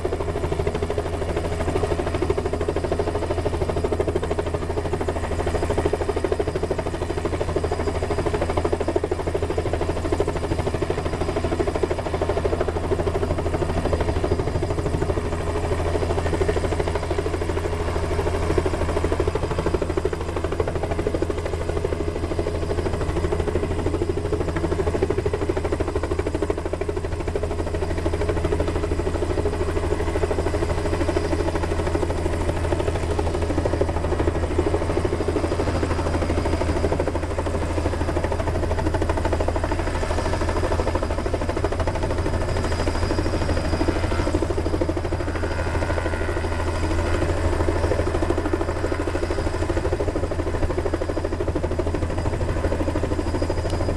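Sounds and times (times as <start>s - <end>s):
helicopter rotor beat: 0.0s - 53.9s.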